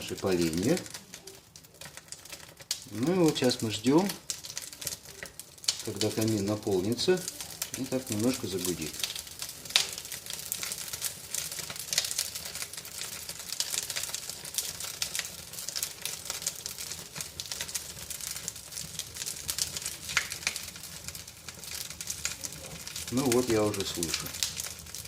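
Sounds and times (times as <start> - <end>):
fire pops and snaps: 0.0 - 25.0
rush of burning fire: 0.0 - 25.0
wood fire crackling: 0.0 - 25.0.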